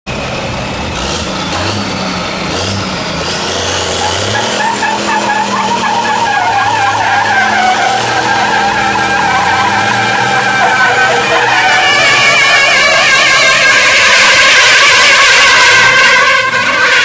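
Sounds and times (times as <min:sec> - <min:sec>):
diesel truck engine revving: 0:00.1 - 0:17.0
tyres squealing in a burnout: 0:01.6 - 0:17.0.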